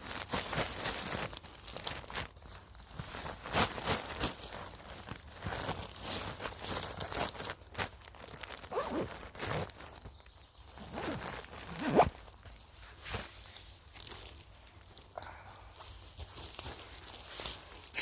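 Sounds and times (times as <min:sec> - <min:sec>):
moss and twigs crunching: 0:00.1 - 0:18.0.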